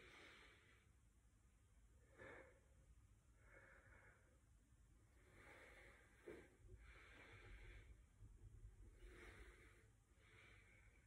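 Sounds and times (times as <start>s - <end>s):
man breathing faintly: 0.0s - 1.0s, 2.0s - 11.0s.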